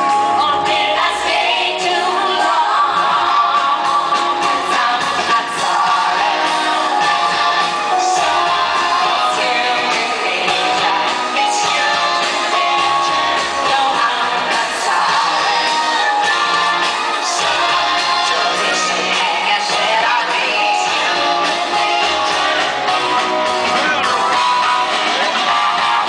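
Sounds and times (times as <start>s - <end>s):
live pop music with singing: 0.0s - 26.0s.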